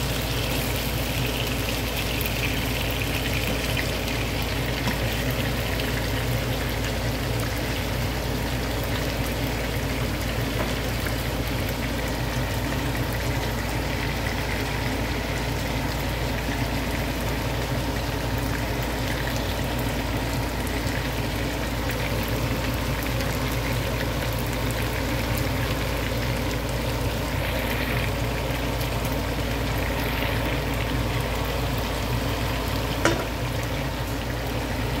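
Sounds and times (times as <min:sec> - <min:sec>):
pork sizzling in a frying pan: 0:00.0 - 0:35.0.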